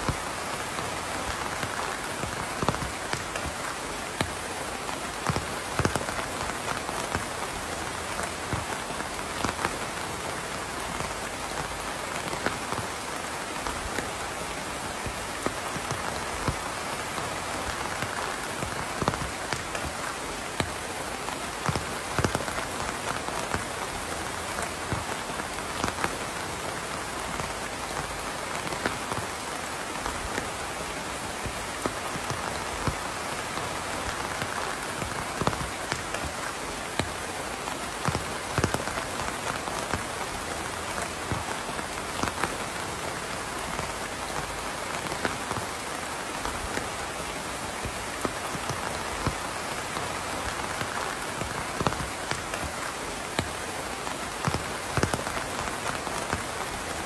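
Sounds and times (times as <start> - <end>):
raindrops ticking on hard surface: 0.0 - 57.0
steady rain hiss: 0.0 - 57.0.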